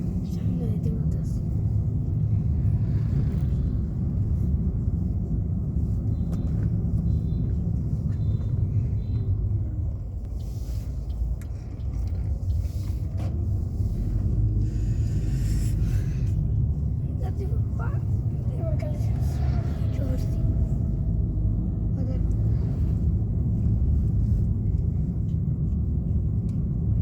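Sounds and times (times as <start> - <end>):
vehicle rumbling: 0.0 - 27.0.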